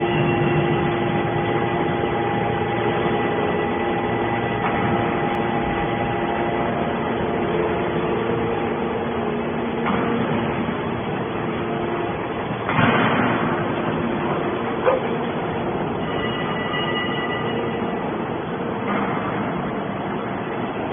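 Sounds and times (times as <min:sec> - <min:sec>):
hydraulic baler humming and whining: 0:00.0 - 0:20.9.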